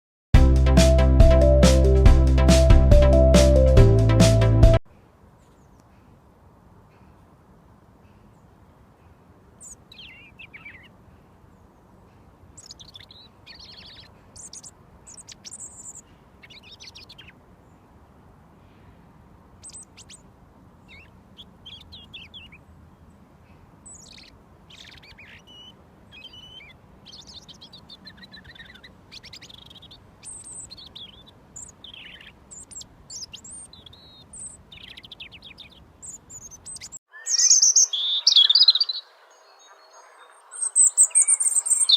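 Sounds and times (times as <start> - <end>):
robin song: 0.4 - 4.8, 8.0 - 18.0, 18.6 - 41.9
faint background hiss: 4.9 - 41.9.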